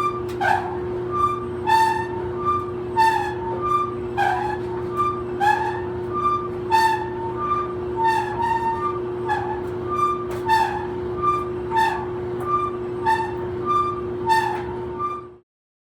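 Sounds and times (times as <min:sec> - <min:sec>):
clothes dryer humming: 0:00.0 - 0:15.0
high-pitched squeak: 0:00.0 - 0:15.4.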